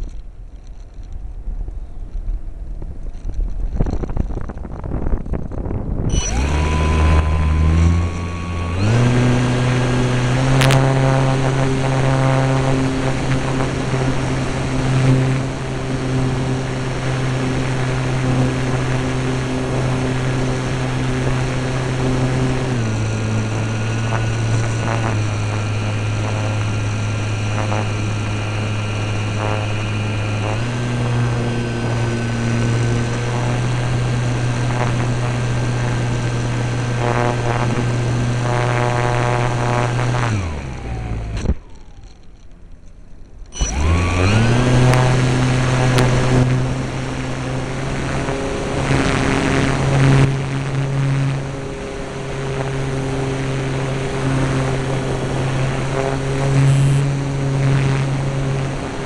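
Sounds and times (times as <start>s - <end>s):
electric motor and propeller: 0.0s - 59.0s.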